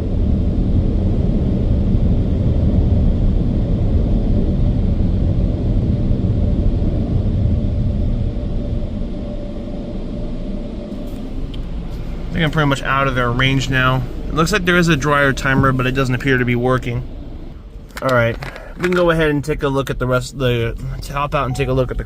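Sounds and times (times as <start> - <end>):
car wash dryer blowers: 0.0 - 22.0.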